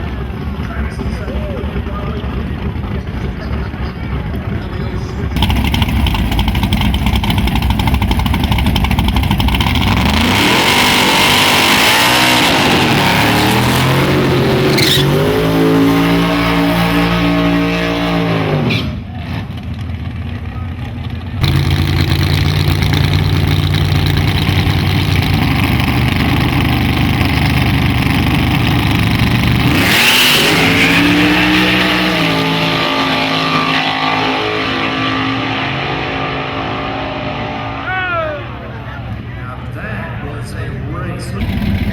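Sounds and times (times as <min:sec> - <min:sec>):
drag cars accelerating: 0:00.0 - 0:41.9.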